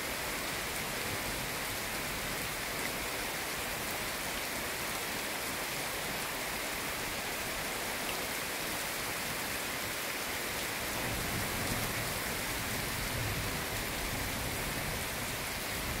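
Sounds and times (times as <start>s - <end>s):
rain falling on foliage: 0.0s - 16.0s.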